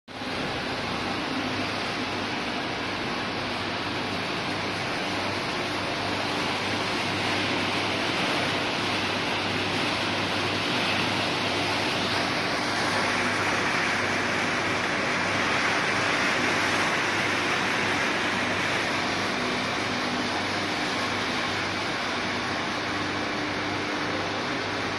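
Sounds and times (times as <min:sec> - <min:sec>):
pump motor hum: 0:00.1 - 0:24.9
water spraying inside washer: 0:00.1 - 0:24.9.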